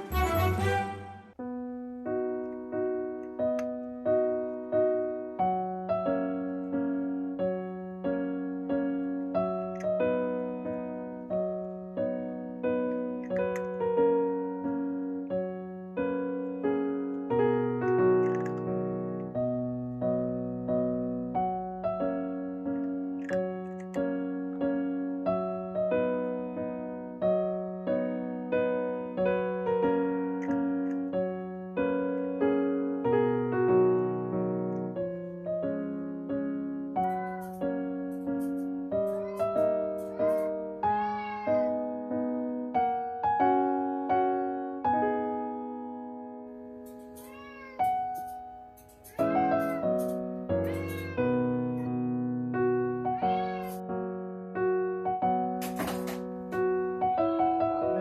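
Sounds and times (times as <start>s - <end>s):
gentle solo piano piece: 1.3s - 58.0s.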